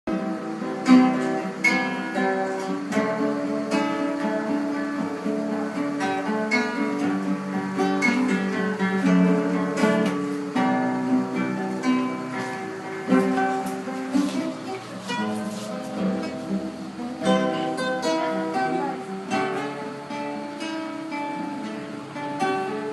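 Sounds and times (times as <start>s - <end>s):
acoustic guitar playing a hymn: 0.1s - 22.9s.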